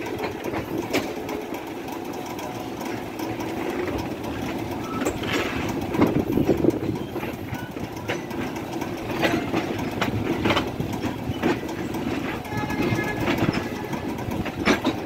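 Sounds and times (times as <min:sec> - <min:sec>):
train wheels rumbling on track: 0:00.0 - 0:15.0
wheels clacking over rail joints: 0:00.0 - 0:15.0.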